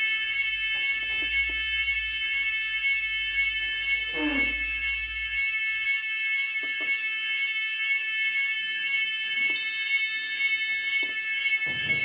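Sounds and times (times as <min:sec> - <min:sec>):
fire alarm high-pitched tone: 0:00.0 - 0:12.0.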